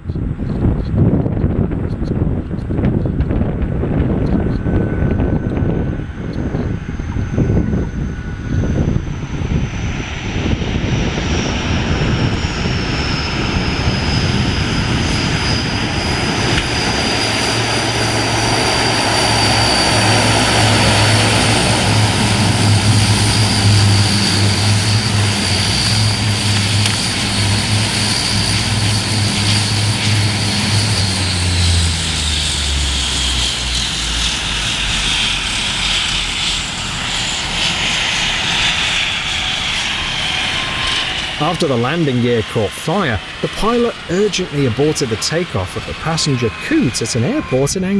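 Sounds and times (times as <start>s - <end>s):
aircraft engines running: 0.0s - 47.9s.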